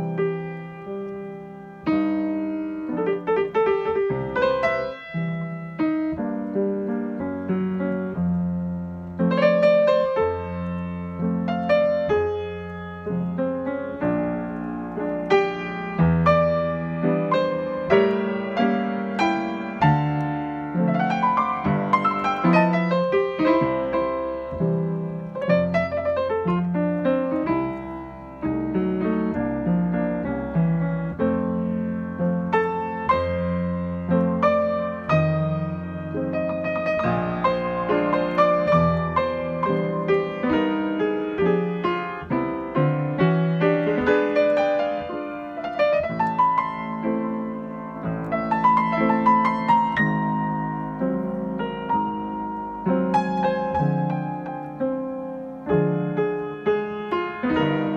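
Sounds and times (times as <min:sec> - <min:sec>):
gentle piano piece: 0:00.0 - 0:57.9.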